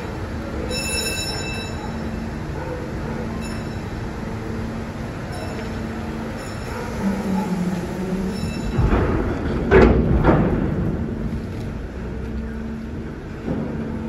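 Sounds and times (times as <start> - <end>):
ferry machinery hum: 0.0 - 14.0.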